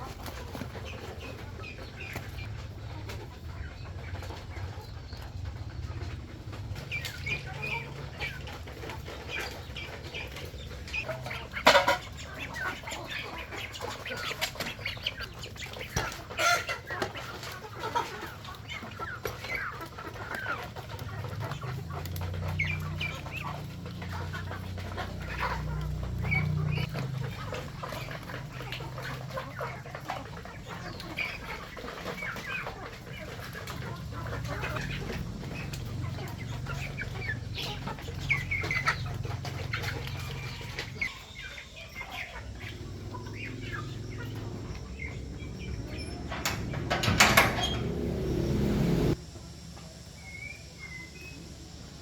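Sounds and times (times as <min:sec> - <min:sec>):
fowl clucking: 0:00.0 - 0:49.2.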